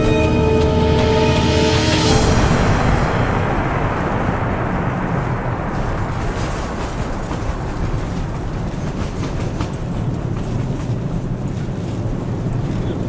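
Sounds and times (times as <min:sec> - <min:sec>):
rumble of airflow and engines: 0:00.9 - 0:13.0.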